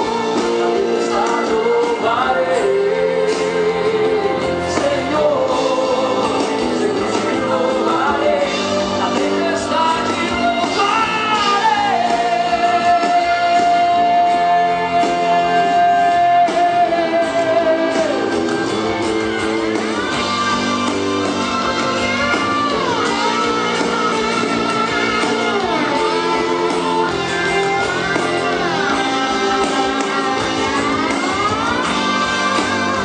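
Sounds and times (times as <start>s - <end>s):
band playing: 0.0s - 33.0s
guitar: 0.0s - 33.0s
person singing: 0.0s - 33.0s.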